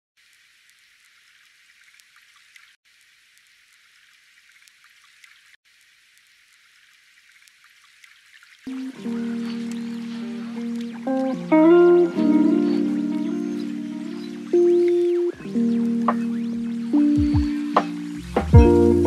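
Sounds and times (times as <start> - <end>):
faint crackling hiss: 0.2 - 19.0.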